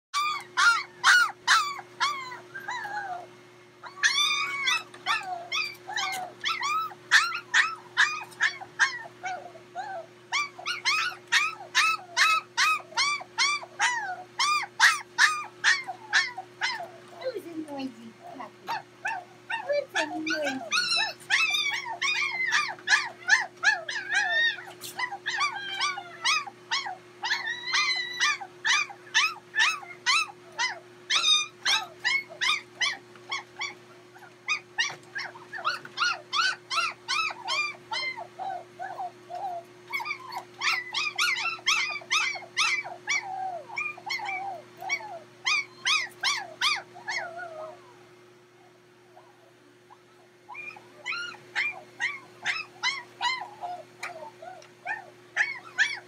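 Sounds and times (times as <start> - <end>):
puppies whimpering and yelping: 0.2 - 56.0.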